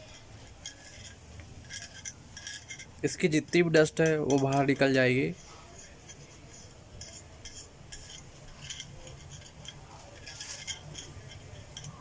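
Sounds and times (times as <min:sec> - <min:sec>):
clicks and scrapes of small parts: 0:00.0 - 0:12.0.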